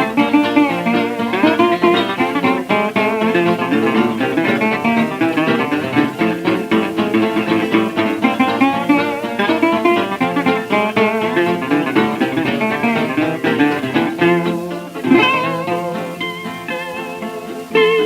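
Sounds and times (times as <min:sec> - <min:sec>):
string band music with plucked guitar: 0:00.0 - 0:18.0.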